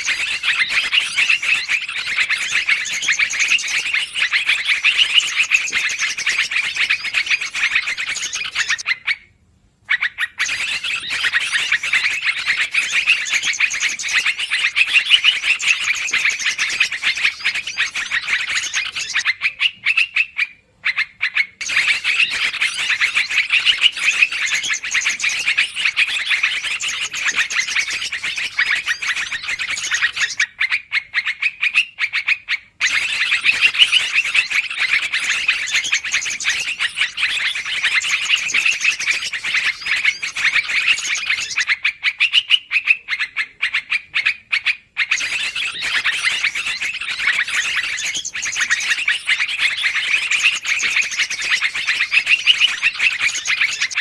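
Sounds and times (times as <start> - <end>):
bulbuls chattering: 0.0 - 8.8, 10.4 - 19.7, 21.6 - 30.4, 32.8 - 41.7, 45.1 - 54.0.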